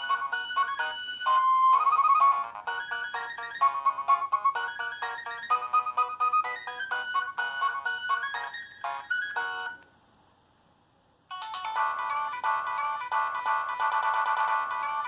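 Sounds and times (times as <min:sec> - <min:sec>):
electronic phone ringtone melody: 0:00.0 - 0:09.8, 0:11.3 - 0:15.0.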